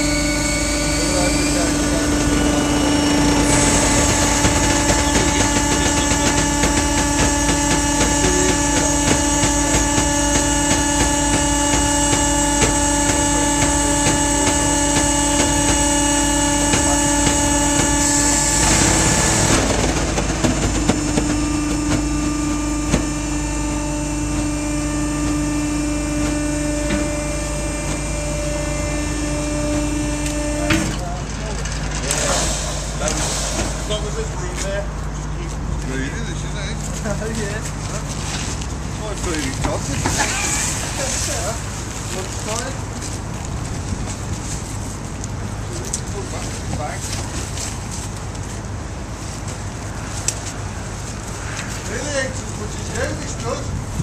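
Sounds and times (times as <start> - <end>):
hydraulic power unit hum: 0.0 - 54.0.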